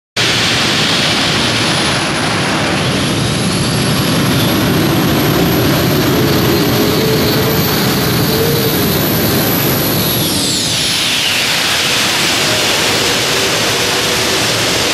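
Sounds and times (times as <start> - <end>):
turboshaft engine roaring with whine: 0.2 - 14.9.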